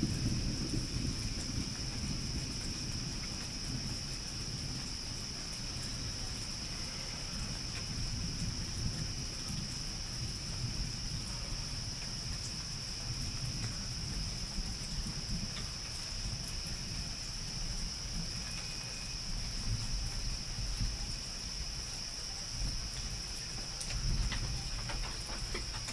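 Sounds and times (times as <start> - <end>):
night insects chorus: 0.0 - 25.9.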